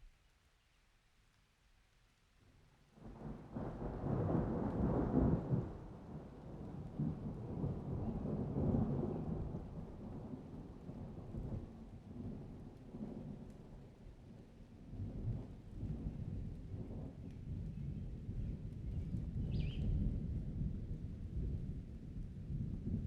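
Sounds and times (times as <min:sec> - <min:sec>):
rain falling: 0:01.0 - 0:23.0.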